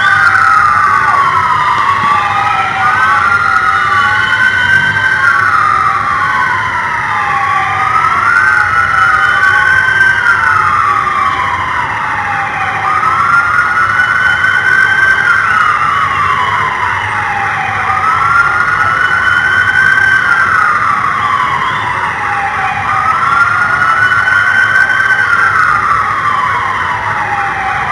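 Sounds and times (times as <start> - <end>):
police siren wailing: 0.0 - 27.9.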